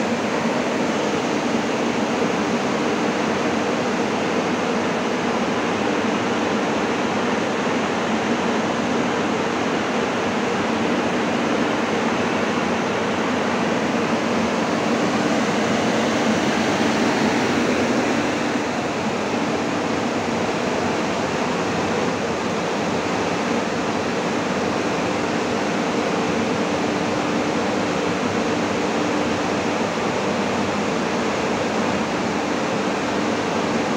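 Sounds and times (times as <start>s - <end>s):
fans rushing air: 0.0s - 33.9s.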